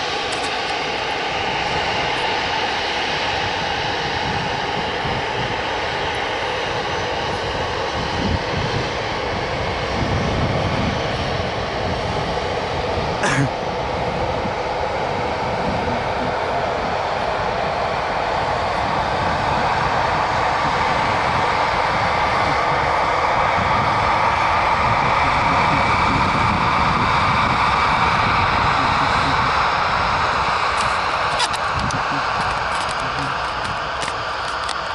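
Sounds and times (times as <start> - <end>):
airliner engines running: 0.0 - 34.9.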